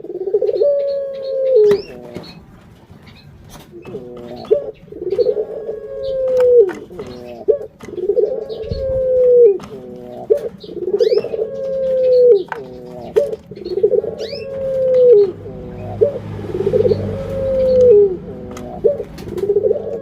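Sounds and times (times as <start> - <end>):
dove cooing: 0.0 - 2.4, 3.1 - 20.0.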